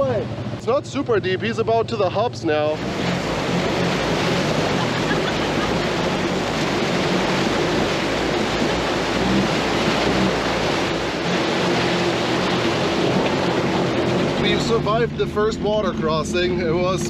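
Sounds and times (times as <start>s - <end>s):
truck engine running: 0.0s - 17.0s
water splashing around wheels: 0.0s - 17.0s.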